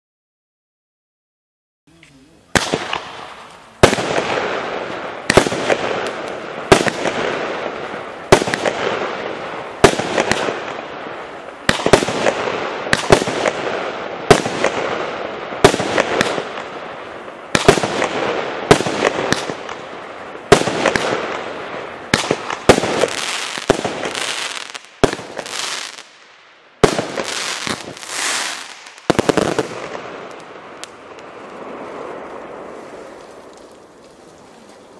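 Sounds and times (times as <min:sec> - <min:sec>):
crackling firework stars: 0:02.0 - 0:34.9
firework bangs: 0:02.5 - 0:33.8.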